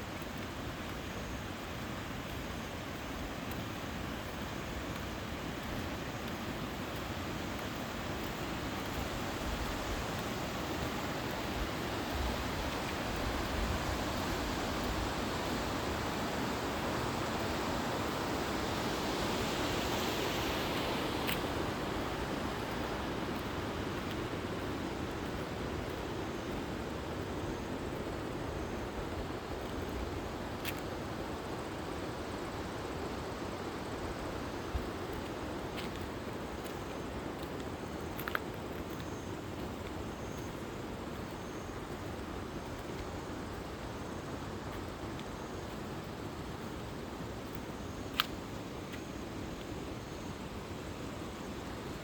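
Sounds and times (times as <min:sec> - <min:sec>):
stream rushing: 0:00.0 - 0:52.0.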